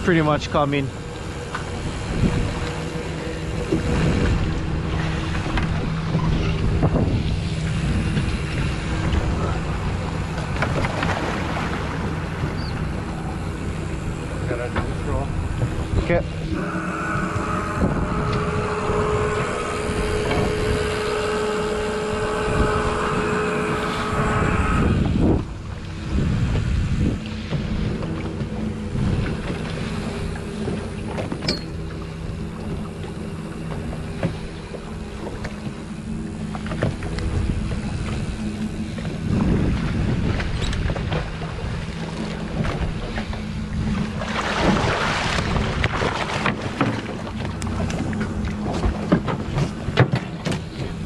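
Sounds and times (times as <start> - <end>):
motorboat engine running: 0.0 - 51.0
water rushing along hull: 0.0 - 51.0
wind on microphone: 0.0 - 51.0.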